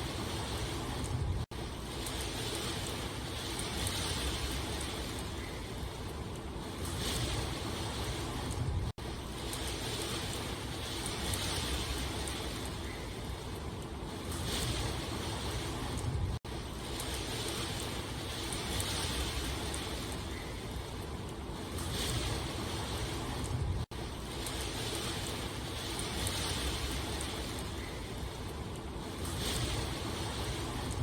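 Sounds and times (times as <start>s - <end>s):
steady rain: 0.0s - 31.0s.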